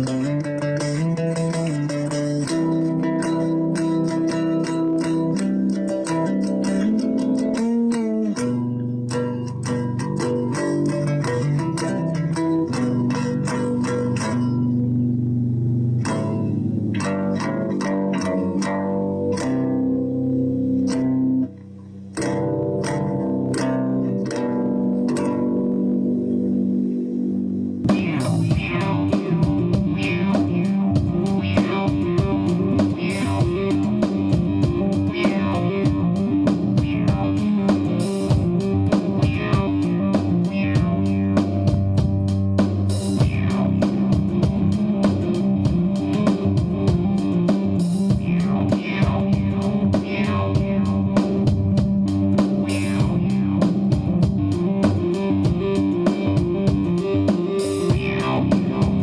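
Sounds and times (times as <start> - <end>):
rock music with electric guitar: 0.0 - 59.0.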